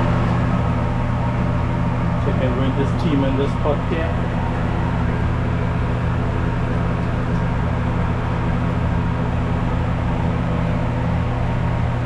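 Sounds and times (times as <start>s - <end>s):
kitchen range humming: 0.0s - 12.0s.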